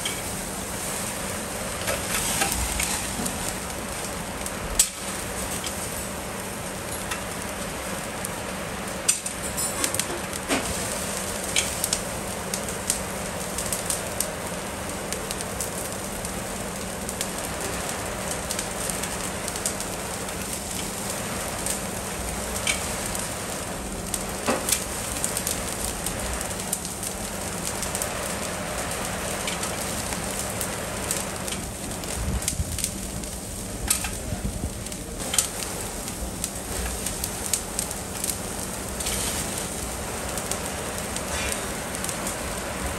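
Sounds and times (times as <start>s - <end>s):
fat crackling and popping: 0.0s - 42.9s
steaks sizzling on a grill: 0.0s - 42.9s.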